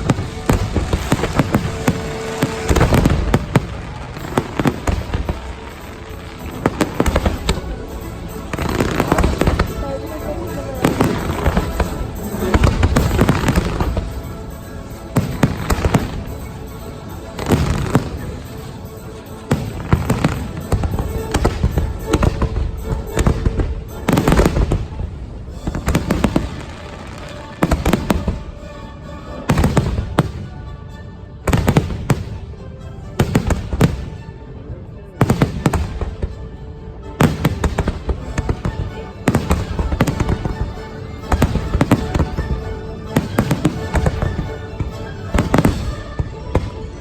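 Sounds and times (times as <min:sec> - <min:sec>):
fireworks bangs: 0:00.0 - 0:28.6, 0:35.2 - 0:36.3, 0:37.2 - 0:47.0
patriotic music: 0:00.0 - 0:47.0.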